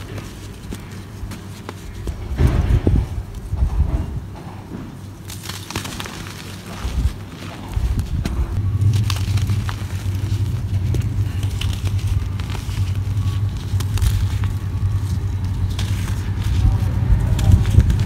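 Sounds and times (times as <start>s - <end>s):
steady low rumble: 0.0s - 5.3s, 6.4s - 18.0s
dry clay lumps crunching: 0.0s - 18.0s.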